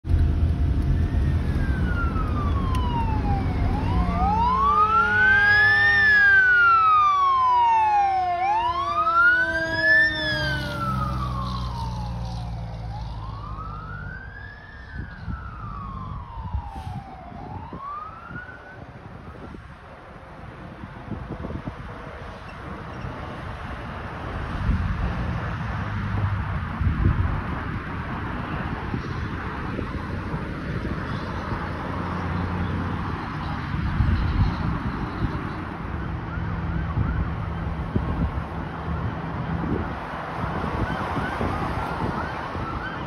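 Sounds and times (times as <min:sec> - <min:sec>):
wailing sirens: 0:00.1 - 0:23.8, 0:26.6 - 0:43.0.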